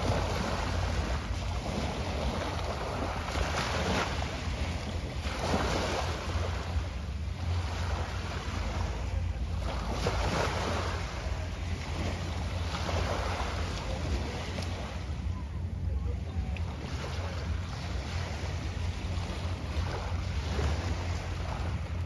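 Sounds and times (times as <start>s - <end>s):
low steady rumble: 0.0s - 22.0s
small waves washing ashore: 0.0s - 22.0s.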